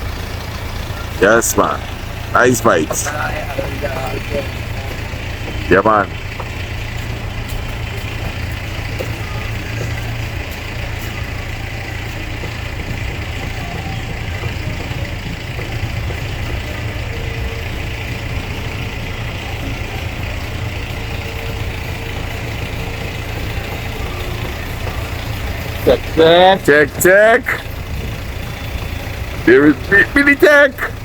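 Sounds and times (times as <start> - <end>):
low engine rumble: 0.0 - 31.0
outdoor street noise: 0.0 - 31.0.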